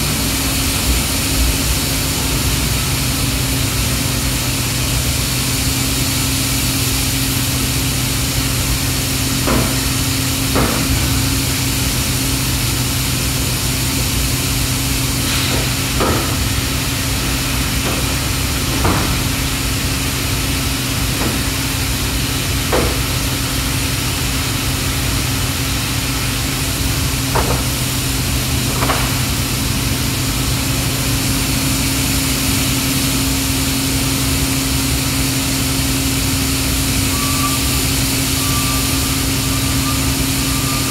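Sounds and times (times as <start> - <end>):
machinery hum and hiss: 0.0 - 40.9.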